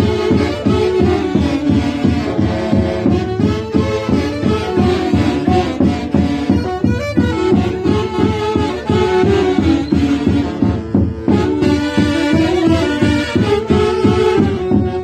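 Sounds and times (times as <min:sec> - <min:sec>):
live band playing festive tune: 0:00.0 - 0:15.0.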